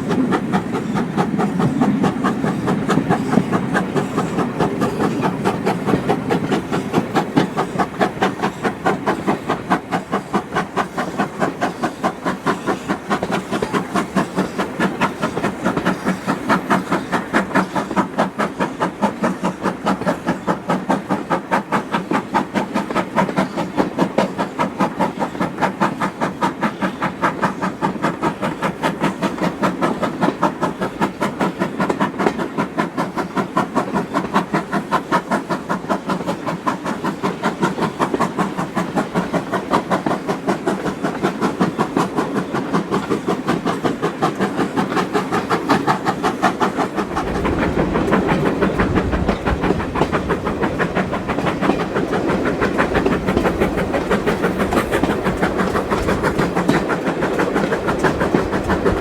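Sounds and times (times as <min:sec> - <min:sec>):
steam locomotive exhaust beat: 0:00.0 - 0:59.0.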